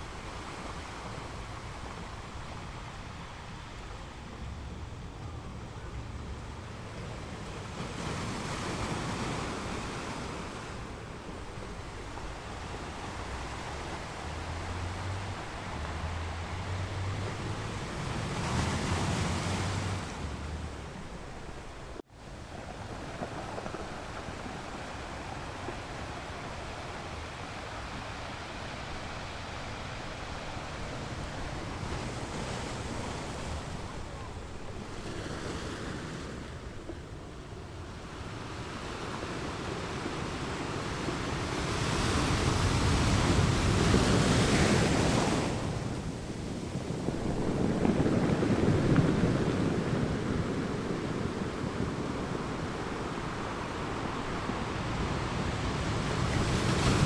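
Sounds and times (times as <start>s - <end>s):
ocean surf on a beach: 0.0s - 57.0s.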